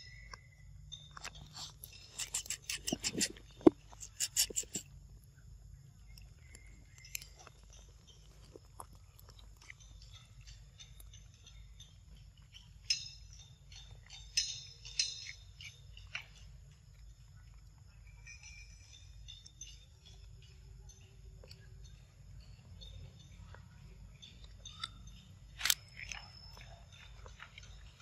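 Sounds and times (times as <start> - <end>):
monkeys chewing and smacking: 0.1 - 28.0.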